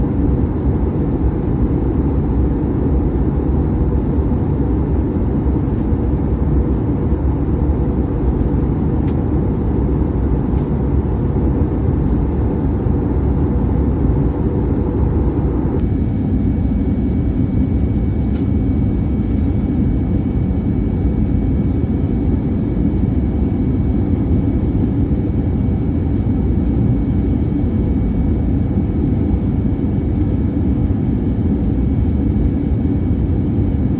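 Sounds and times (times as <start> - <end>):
aircraft cabin rumble and airflow: 0.0 - 33.9.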